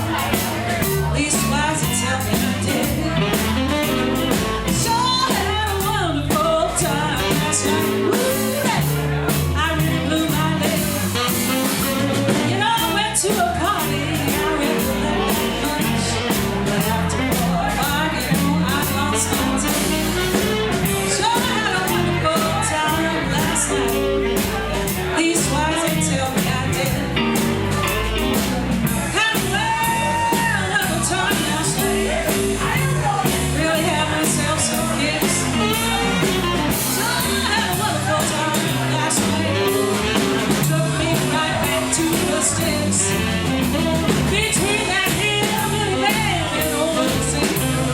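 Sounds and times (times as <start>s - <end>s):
live blues-rock band: 0.0s - 47.9s
person singing: 0.0s - 47.9s.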